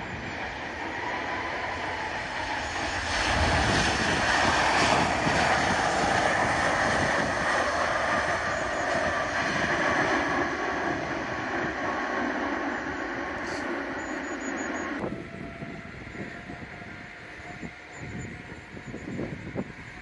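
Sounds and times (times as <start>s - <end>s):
wind rumbling on microphone: 0.0s - 12.4s, 14.9s - 20.0s
jet engines rushing: 0.0s - 20.0s.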